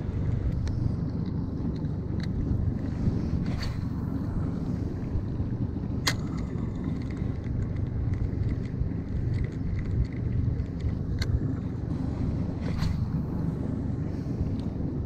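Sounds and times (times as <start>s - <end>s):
reel ticking: 0.0s - 13.5s
wind and boat rumble: 0.0s - 15.0s.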